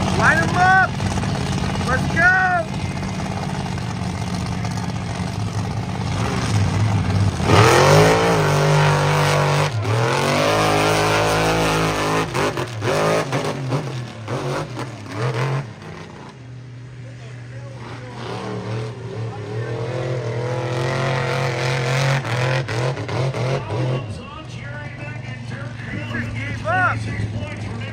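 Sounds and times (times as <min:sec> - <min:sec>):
truck engine revving: 0:00.0 - 0:27.9.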